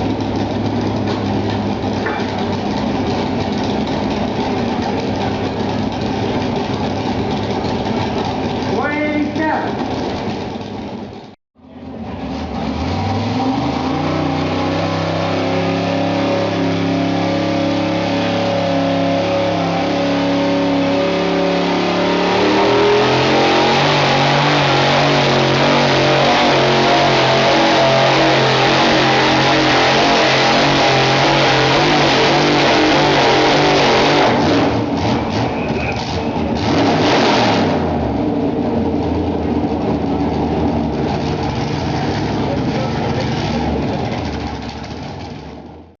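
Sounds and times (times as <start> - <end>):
truck engine at full throttle: 0.0 - 46.0.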